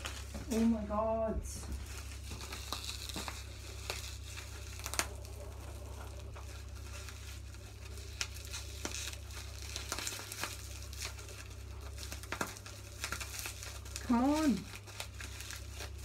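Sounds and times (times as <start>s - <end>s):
low hum: 0.0s - 16.0s
packaging crinkling and rustling: 0.0s - 16.0s.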